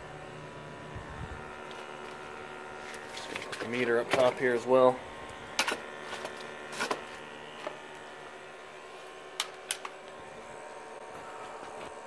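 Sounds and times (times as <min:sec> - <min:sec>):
heater humming: 0:00.0 - 0:12.0.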